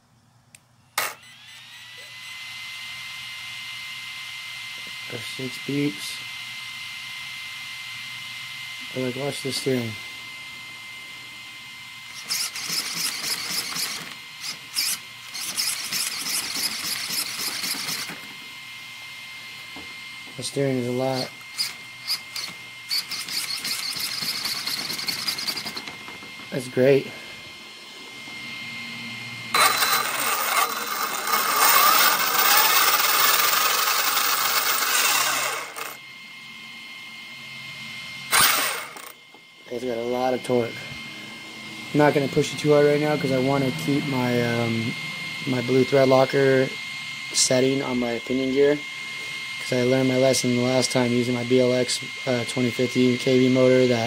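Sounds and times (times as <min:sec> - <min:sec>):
electric motor whirring: 0:00.9 - 0:54.0
steering servo whining: 0:00.9 - 0:54.0.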